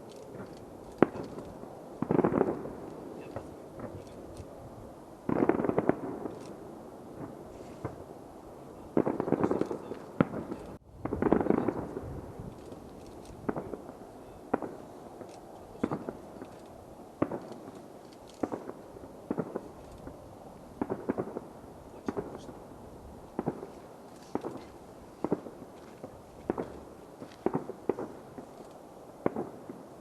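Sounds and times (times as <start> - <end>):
fireworks banging: 0.0 - 4.6, 5.2 - 8.2, 8.8 - 22.7, 23.3 - 30.0
fireworks crackling: 0.0 - 30.0.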